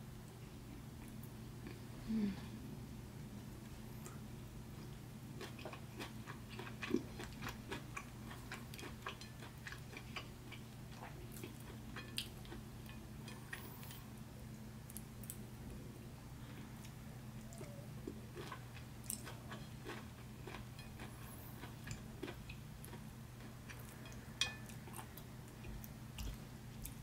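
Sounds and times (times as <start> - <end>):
steady low hum: 0.0 - 27.0
wet chewing sounds: 3.9 - 15.4, 16.4 - 27.0.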